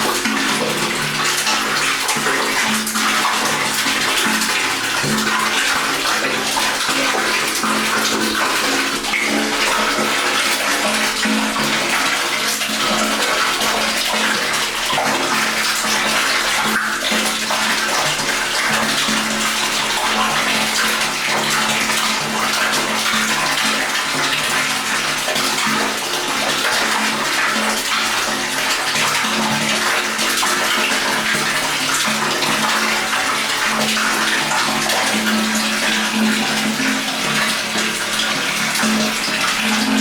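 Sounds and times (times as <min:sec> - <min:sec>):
water pouring into a tank: 0:00.0 - 0:40.0.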